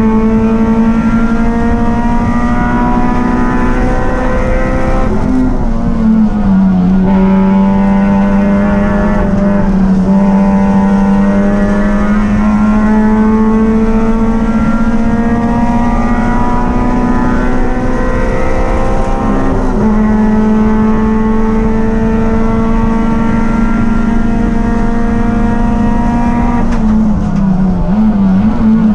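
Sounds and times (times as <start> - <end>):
race car engine at high revs: 0.0 - 28.9.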